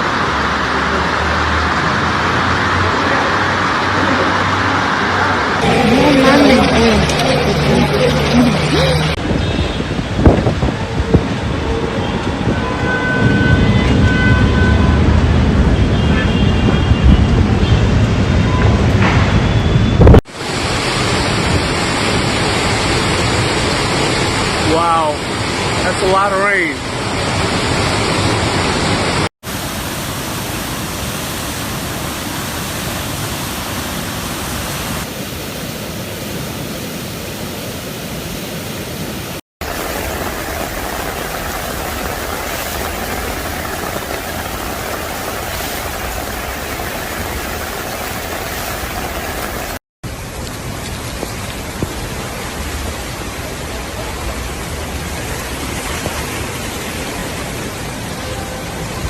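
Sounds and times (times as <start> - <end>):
heavy rainstorm rushing: 0.0 - 12.6, 13.4 - 59.0.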